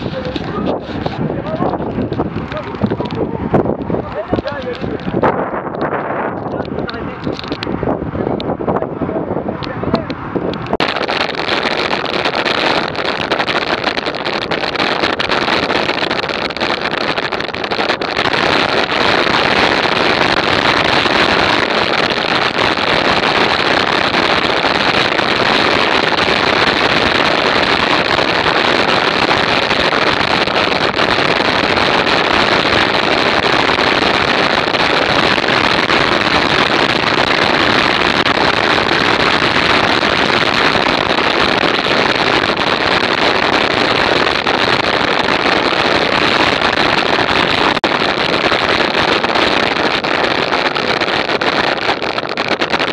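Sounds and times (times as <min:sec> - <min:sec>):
wind rush on microphone: 0:00.0 - 0:52.9.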